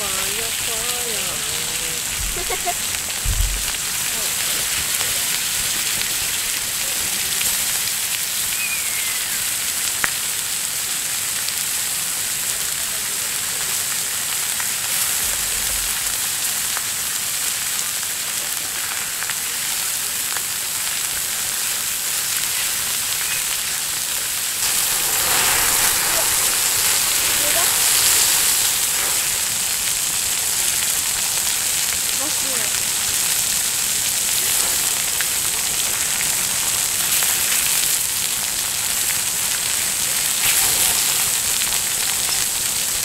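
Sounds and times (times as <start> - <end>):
pork sizzling on griddle: 0.0 - 43.0
sharp crackles: 0.0 - 43.0.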